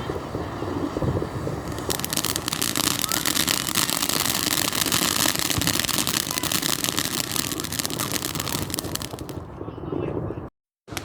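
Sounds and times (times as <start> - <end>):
crackling firework: 0.0 - 9.6.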